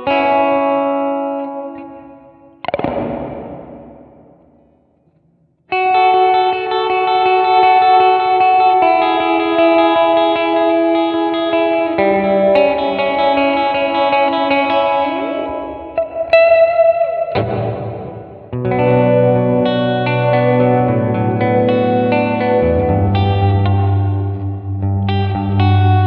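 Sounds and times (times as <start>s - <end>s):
clean electric guitar chords: 0.0s - 26.0s.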